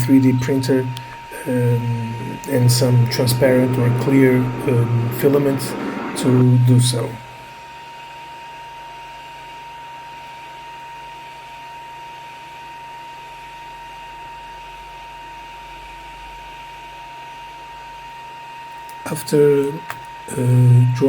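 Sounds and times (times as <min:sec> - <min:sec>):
steady hum and hiss: 0:00.0 - 0:21.0
thin constant whine: 0:00.0 - 0:21.0.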